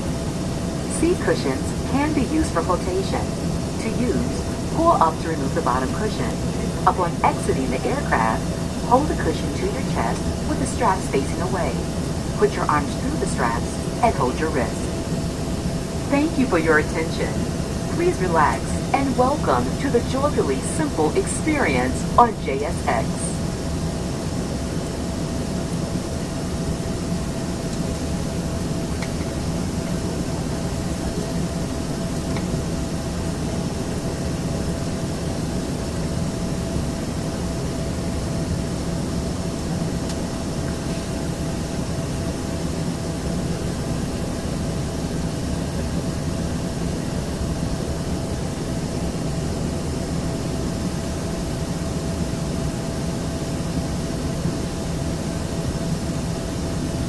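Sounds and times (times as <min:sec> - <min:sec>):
jet cabin engine hum: 0:00.0 - 0:57.0
mid-pitched whine: 0:00.0 - 0:57.0.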